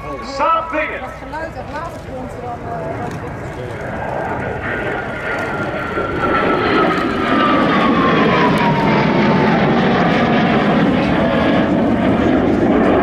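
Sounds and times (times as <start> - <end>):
jet passing with falling whine: 0.0 - 13.0.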